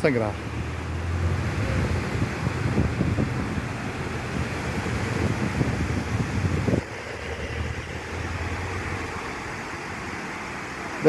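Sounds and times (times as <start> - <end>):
water rushing over dam spillway: 0.0 - 11.0
wind buffeting microphone: 0.4 - 10.8.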